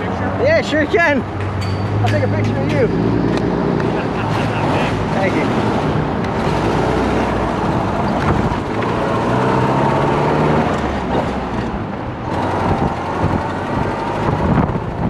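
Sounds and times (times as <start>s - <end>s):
road rumble: 0.0s - 15.0s
car engine accelerating: 2.1s - 15.0s.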